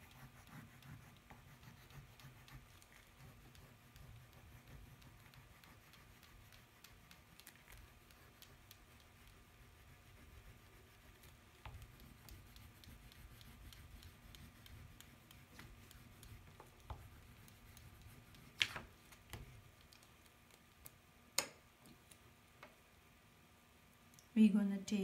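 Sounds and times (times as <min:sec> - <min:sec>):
colouring scratching on paper: 0:00.0 - 0:20.8.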